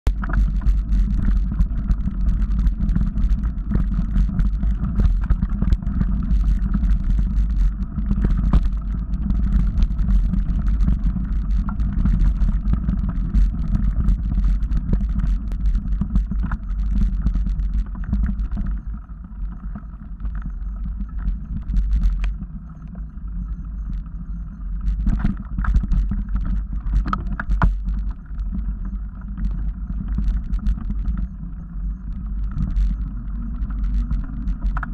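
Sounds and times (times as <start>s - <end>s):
bike rolling rumble: 0.0s - 34.9s.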